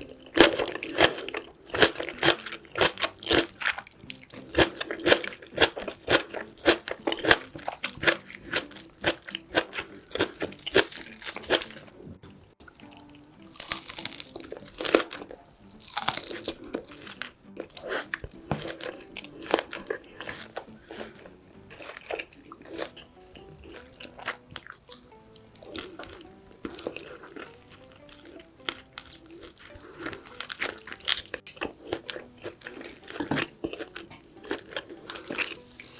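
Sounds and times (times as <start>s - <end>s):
close-up chewing and crunching: 0.0s - 35.9s.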